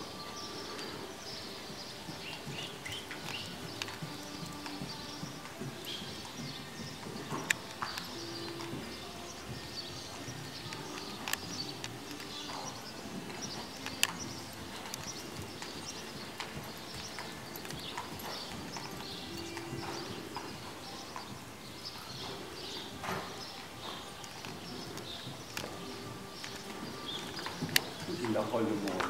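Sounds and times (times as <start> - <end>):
hoofbeats on sand: 0.0 - 29.0.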